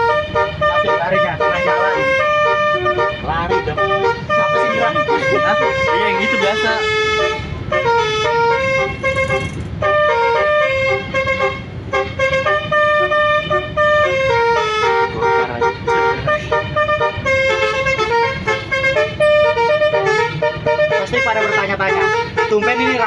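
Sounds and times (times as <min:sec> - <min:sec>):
bus horn playing a tune: 0:00.0 - 0:23.0.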